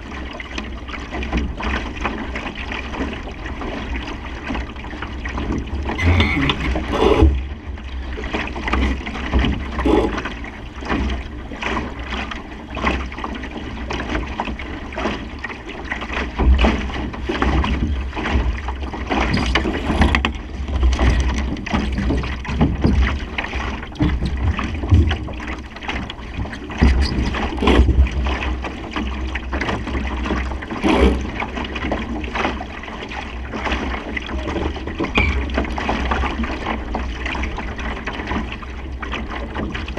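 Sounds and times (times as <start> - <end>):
water splashing against hull: 0.0 - 39.9.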